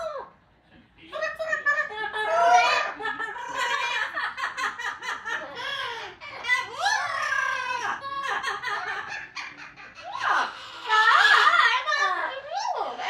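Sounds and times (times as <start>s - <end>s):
parrots chattering calls: 2.2s - 13.0s.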